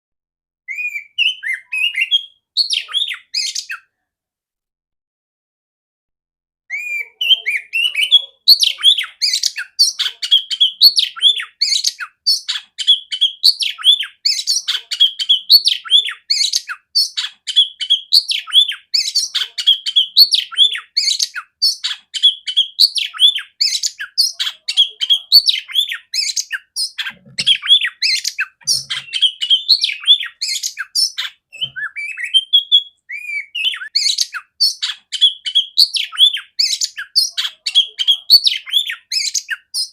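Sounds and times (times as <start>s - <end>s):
magpie-robin singing: 0.7s - 3.9s, 6.7s - 39.9s.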